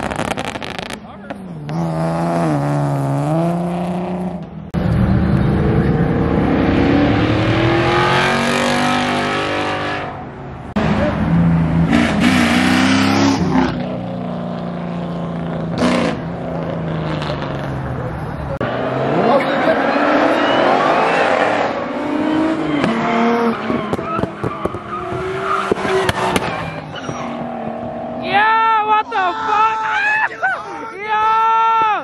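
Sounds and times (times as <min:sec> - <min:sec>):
car engines accelerating hard: 0:00.0 - 0:28.4.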